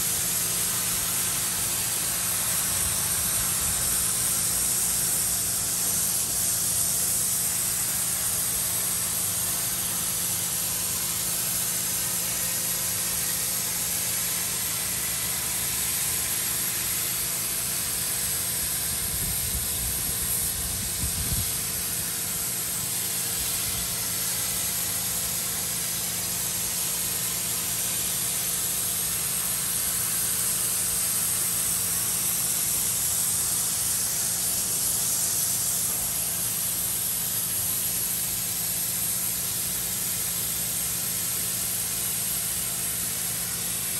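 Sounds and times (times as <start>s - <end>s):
pressure washer motor humming: 0.0s - 43.9s
pressure washer spraying water: 0.0s - 43.9s.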